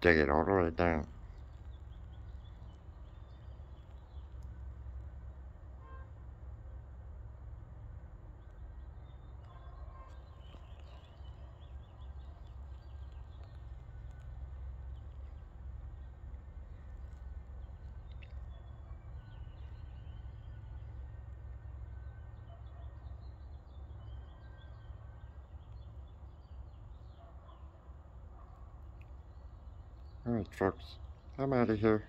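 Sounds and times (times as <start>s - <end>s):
birds chirping: 0.0s - 5.4s, 8.4s - 32.0s
low outdoor rumble: 0.0s - 32.0s.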